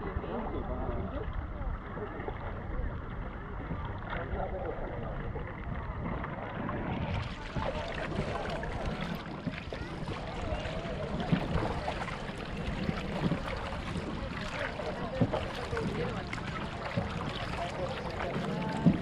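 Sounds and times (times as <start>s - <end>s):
water splashing against boat hull: 1.2s - 19.0s.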